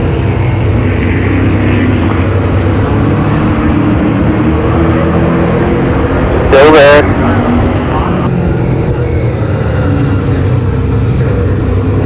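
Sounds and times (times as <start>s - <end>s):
race car engine drone: 0.0s - 12.0s.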